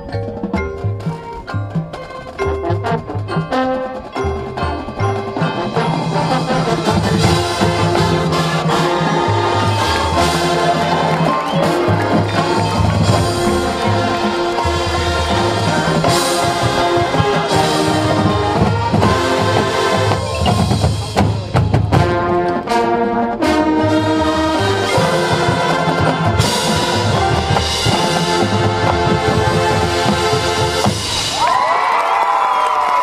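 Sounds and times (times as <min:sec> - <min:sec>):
percussion: 0:00.0 - 0:33.0
brass chords: 0:02.1 - 0:31.4
marching drums: 0:02.8 - 0:31.9.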